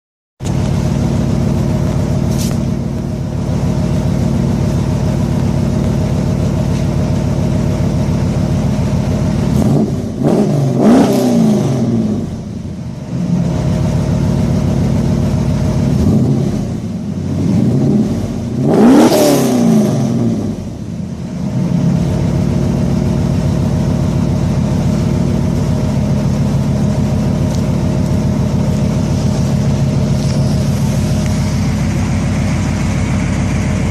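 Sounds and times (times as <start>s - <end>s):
car engine idling and revving: 0.4s - 33.9s.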